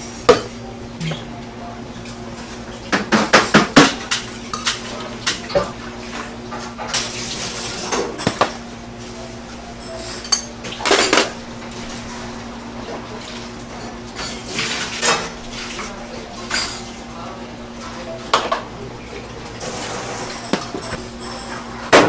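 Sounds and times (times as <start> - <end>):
steady low hum: 0.0 - 22.0
dishes and utensils clattering: 0.3 - 22.0.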